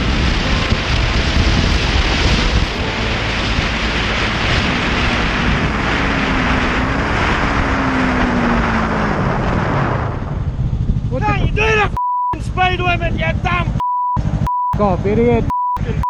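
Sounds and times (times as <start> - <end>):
wind rushing over microphone: 0.0 - 15.5.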